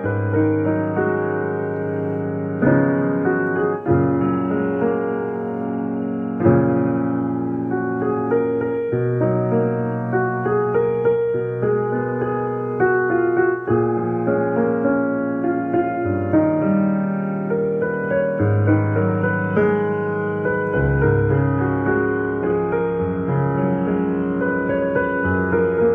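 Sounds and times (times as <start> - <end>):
background piano music: 0.0 - 25.9.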